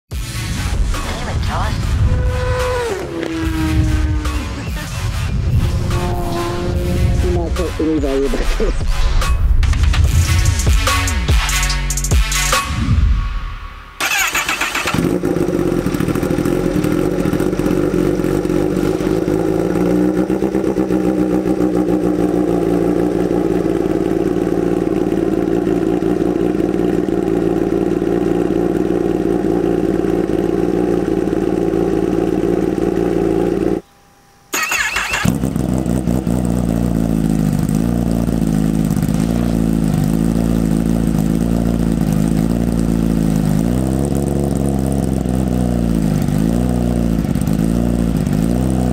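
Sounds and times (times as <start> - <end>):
motorcycle engine running: 0.1 - 12.6, 14.0 - 33.9, 34.5 - 48.9
wavering motorcycle engine: 0.1 - 13.0, 14.0 - 48.9.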